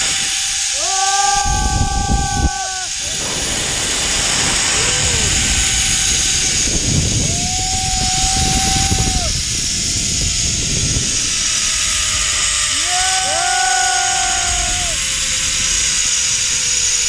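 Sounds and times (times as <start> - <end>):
wind rush on microphone: 0.0 - 17.0
zipline pulley whine: 0.0 - 17.0.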